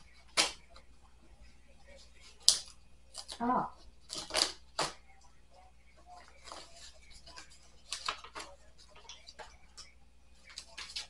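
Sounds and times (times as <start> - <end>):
faint voice: 0.0 - 11.0.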